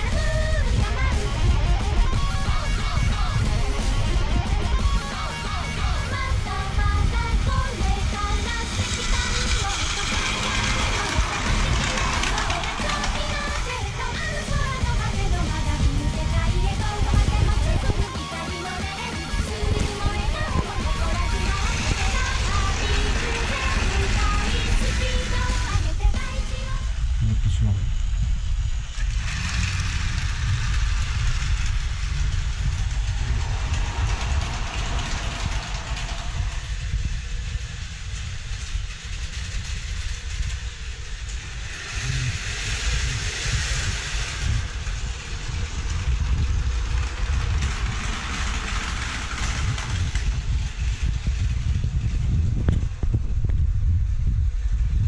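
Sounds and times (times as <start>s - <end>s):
toy trains whirring on track: 0.0s - 26.9s, 28.4s - 53.6s.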